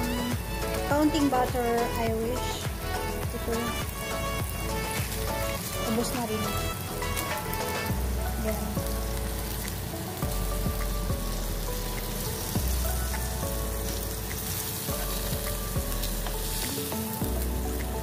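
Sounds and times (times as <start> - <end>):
background music: 0.0 - 18.0
steaks sizzling in a pan: 0.0 - 18.0.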